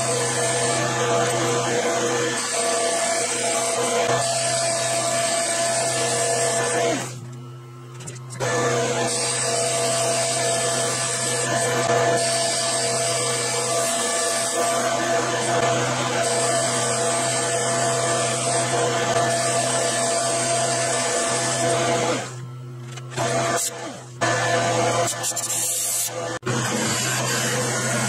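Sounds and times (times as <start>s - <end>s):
lathe tool cutting: 0.0s - 7.2s, 8.3s - 22.4s, 23.1s - 28.0s
metal lathe whine: 0.0s - 28.0s.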